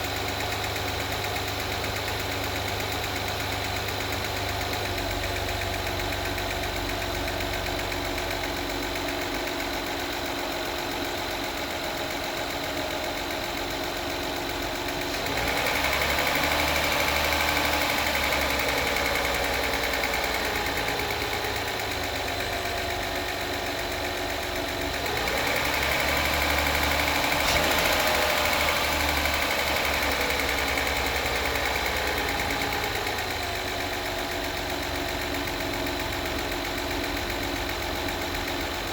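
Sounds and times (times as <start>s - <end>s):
car engine idling and revving: 0.0s - 38.9s
engine ticking: 0.0s - 38.9s.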